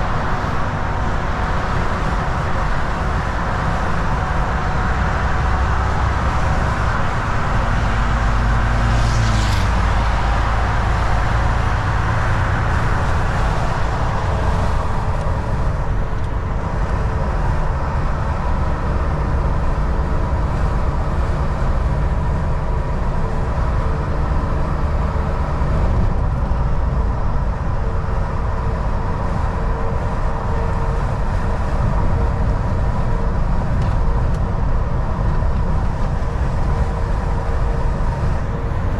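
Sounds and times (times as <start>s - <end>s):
truck diesel engine drone: 0.0s - 38.9s
tyre and road noise: 0.0s - 38.9s.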